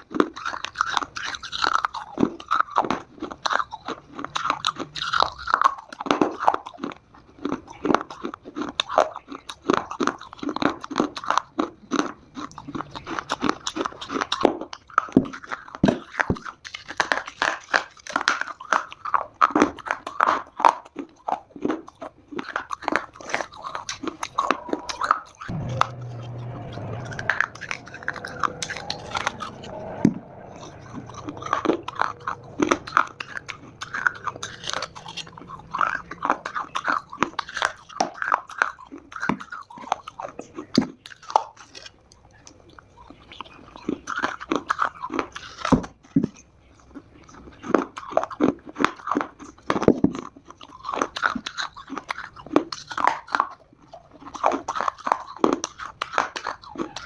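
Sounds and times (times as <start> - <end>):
chewing dry clay crunches: 0.0 - 57.0.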